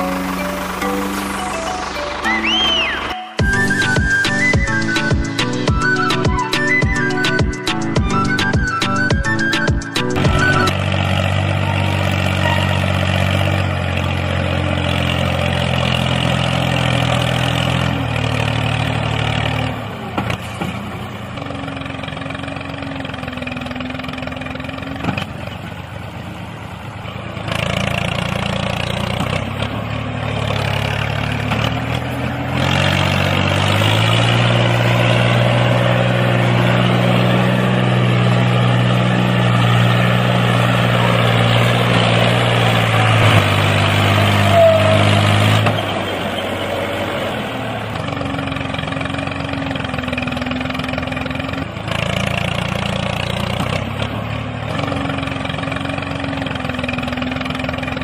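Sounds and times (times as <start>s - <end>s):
miniature tractor engine drone: 0.0s - 58.0s.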